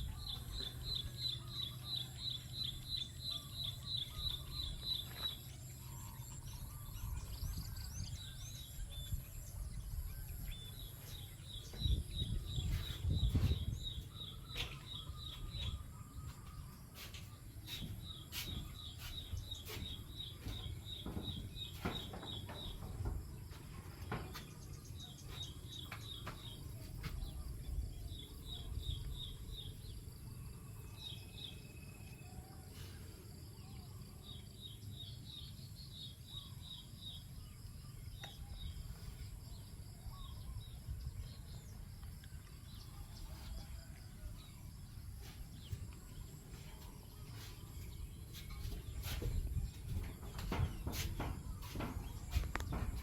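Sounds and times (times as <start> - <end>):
small birds chirping: 0.0 - 32.7, 33.4 - 53.0.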